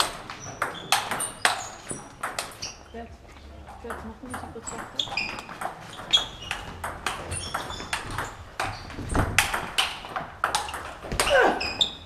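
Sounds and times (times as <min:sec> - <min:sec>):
table tennis ball clicking: 0:00.0 - 0:02.8, 0:03.8 - 0:12.0.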